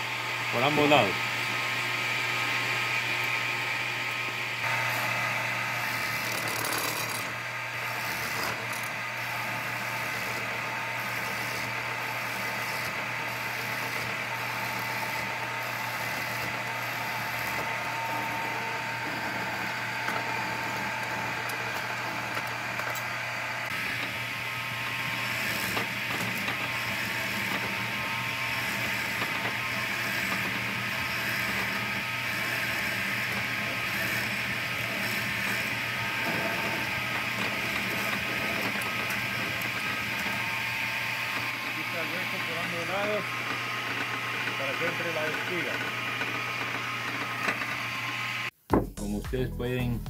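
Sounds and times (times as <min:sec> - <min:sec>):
mortising machine cutting wood: 0:00.0 - 0:48.5.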